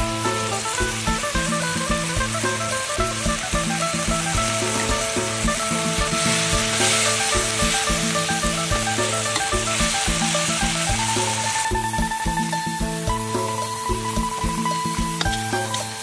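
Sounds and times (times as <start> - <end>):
background music: 0.0 - 16.0
food sizzling in a wok: 0.0 - 16.0.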